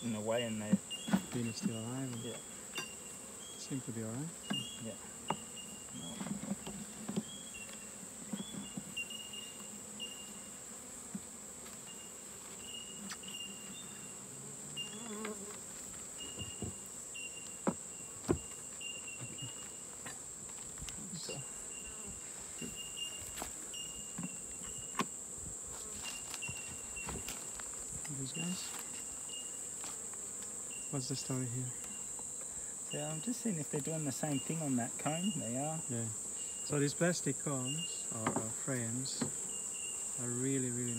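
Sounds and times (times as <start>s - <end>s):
honeybees buzzing: 0.0s - 40.9s
high-pitched insect trill: 0.2s - 6.2s, 7.2s - 10.7s, 11.8s - 15.5s, 16.1s - 40.9s.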